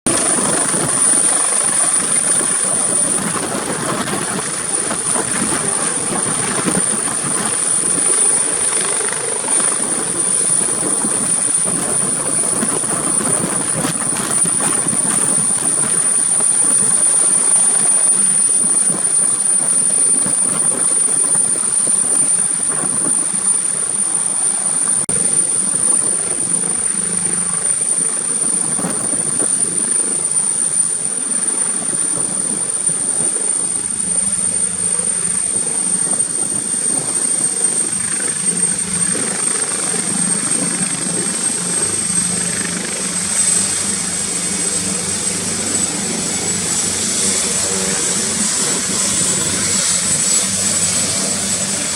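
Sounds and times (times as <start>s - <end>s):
helicopter rotor noise: 0.0s - 51.9s
high-pitched whine: 0.1s - 51.9s.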